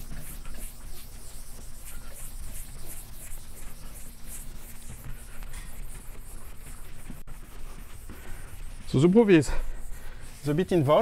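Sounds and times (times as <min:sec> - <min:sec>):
eraser wiping blackboard: 0:00.0 - 0:11.0.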